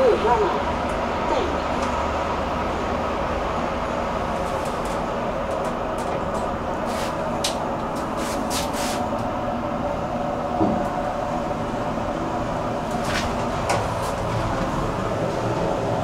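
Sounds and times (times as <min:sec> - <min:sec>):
elevator mechanical hum: 0:00.0 - 0:16.0.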